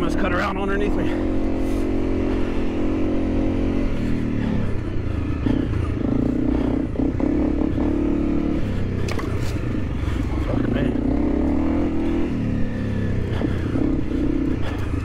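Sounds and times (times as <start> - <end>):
motorcycle engine revving: 0.0 - 15.0
road and wind noise: 0.0 - 15.0.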